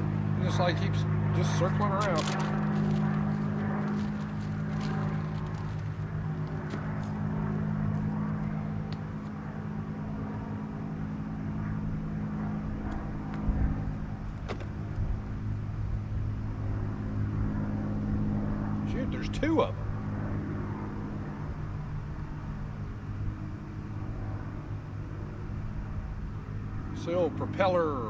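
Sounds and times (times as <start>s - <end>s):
propeller airplane droning: 0.0s - 28.0s.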